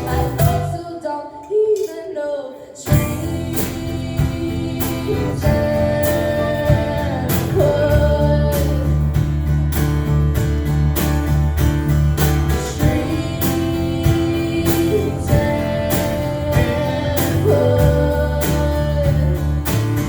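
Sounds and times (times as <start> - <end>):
strummed acoustic guitar: 0.0 - 0.8, 2.9 - 20.0
sustained bass line: 0.0 - 0.8, 2.9 - 20.0.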